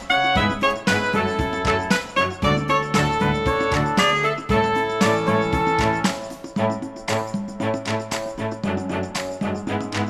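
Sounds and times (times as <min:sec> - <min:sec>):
instrumental music with bass and beat: 0:00.0 - 0:10.0.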